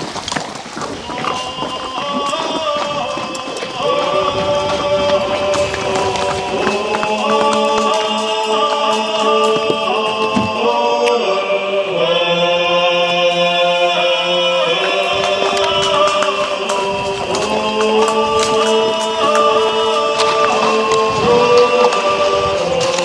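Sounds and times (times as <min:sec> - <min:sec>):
choir-like chanting voices: 0:00.8 - 0:23.0.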